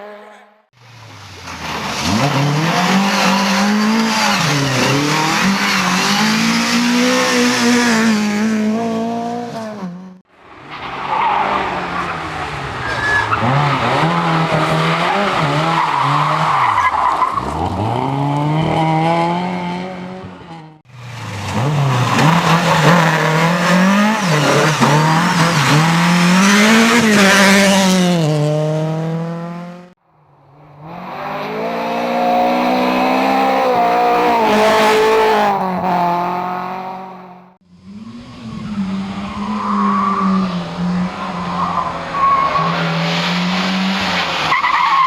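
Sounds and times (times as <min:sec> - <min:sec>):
racing car engines revving: 0:00.0 - 0:45.0.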